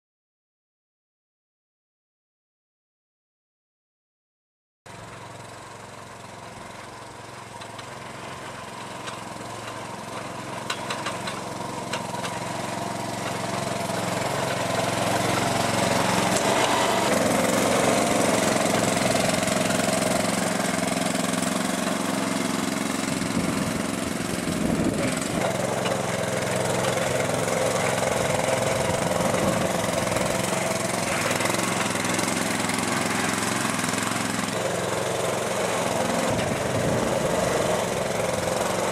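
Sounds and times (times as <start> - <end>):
small engine running steadily: 4.9 - 38.9.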